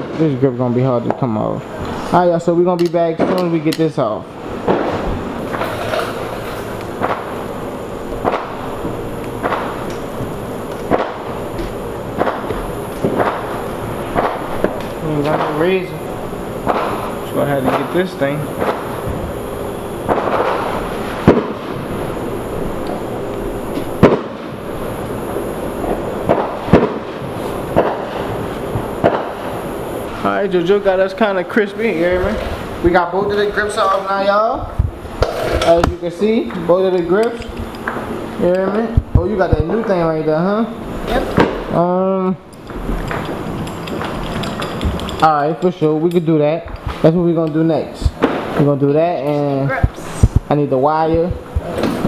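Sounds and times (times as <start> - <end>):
firecrackers popping: 0.0 - 41.9, 42.6 - 45.8, 46.6 - 52.0
background hiss: 0.0 - 52.0.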